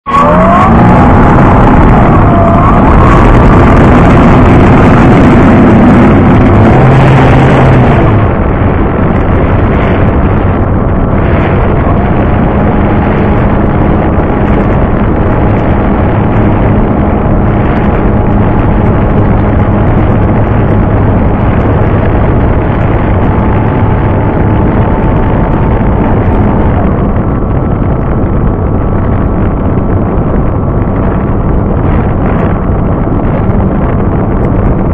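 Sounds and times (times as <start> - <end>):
wind on microphone: 0.0 - 34.9.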